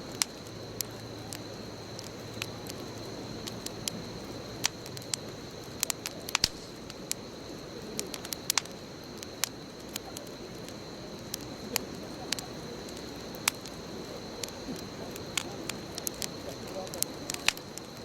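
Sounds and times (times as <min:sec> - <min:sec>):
bonfire crackling and popping: 0:00.0 - 0:18.0
flames rustling: 0:00.0 - 0:18.0.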